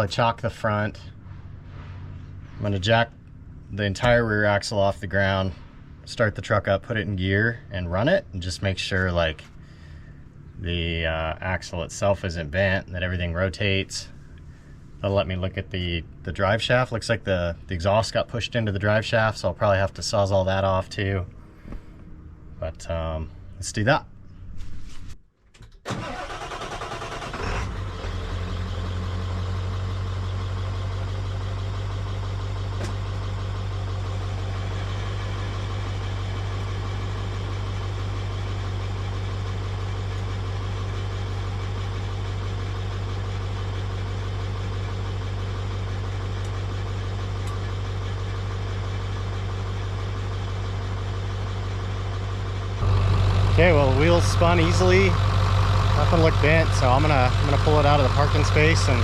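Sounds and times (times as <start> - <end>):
diesel engine idling: 0.0 - 24.4, 25.9 - 59.0
diesel truck engine starting: 0.0 - 24.4, 25.6 - 59.0.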